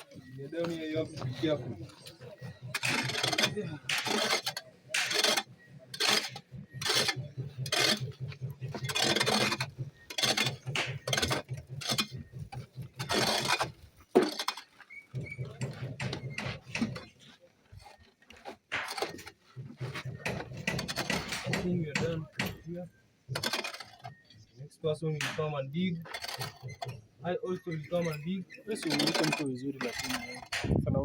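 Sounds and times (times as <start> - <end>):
hoe scraping and chopping soil: 0.0 - 24.4, 25.3 - 30.8.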